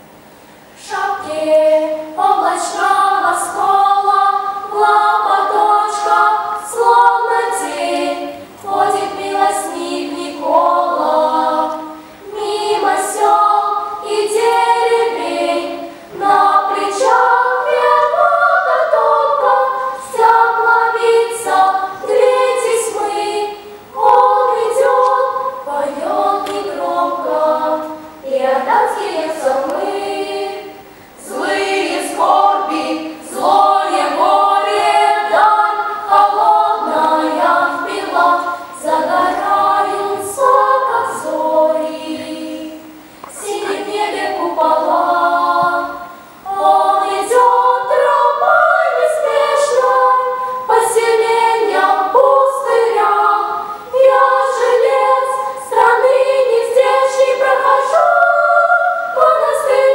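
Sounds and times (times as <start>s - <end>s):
girls' choir singing: 0.0s - 59.9s.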